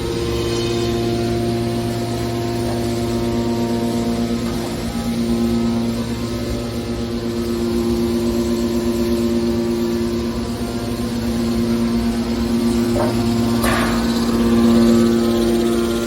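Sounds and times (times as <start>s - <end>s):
baler pump humming: 0.0s - 16.0s.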